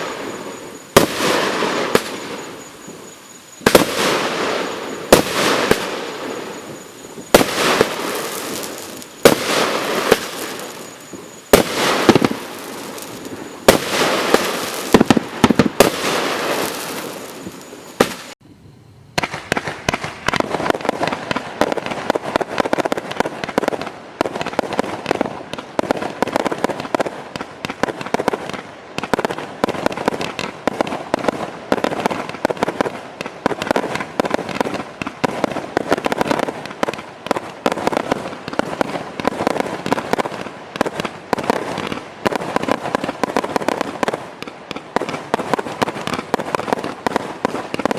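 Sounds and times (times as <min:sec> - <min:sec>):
firework bursts: 0:00.0 - 0:18.4, 0:19.2 - 0:47.9
rapid firework pops and cracks: 0:00.0 - 0:18.4, 0:19.2 - 0:47.9.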